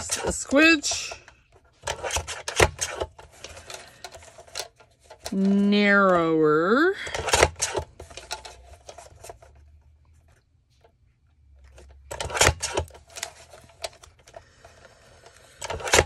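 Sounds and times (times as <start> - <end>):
paper handling clicks and rustling: 0.0 - 5.7, 7.1 - 11.0, 11.6 - 16.0.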